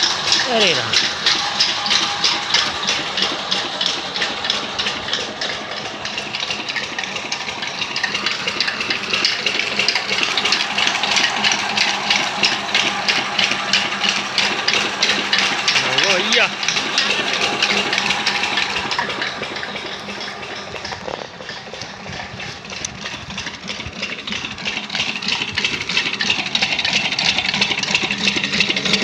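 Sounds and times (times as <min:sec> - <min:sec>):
water pump engine running: 0:00.0 - 0:29.0.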